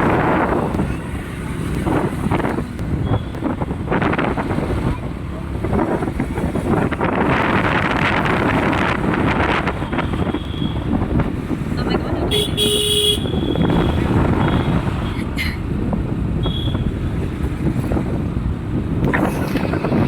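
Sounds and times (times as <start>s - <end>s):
vehicle engines rumbling: 0.0s - 20.0s
wind buffeting microphone: 0.0s - 20.0s.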